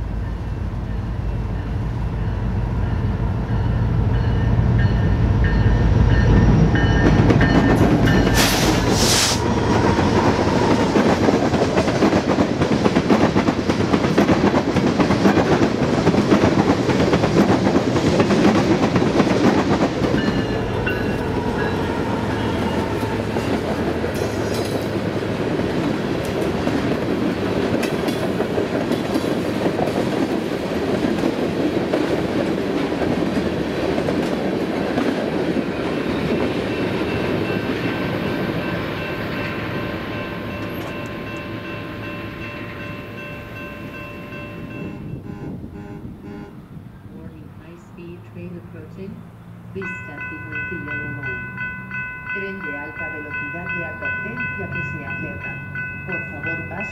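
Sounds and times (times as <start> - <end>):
freight train rumble: 0.0 - 56.9.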